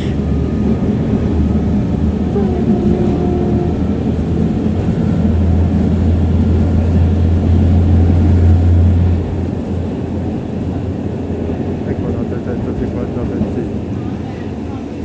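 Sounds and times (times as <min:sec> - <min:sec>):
tram rumbling past: 0:00.0 - 0:15.0.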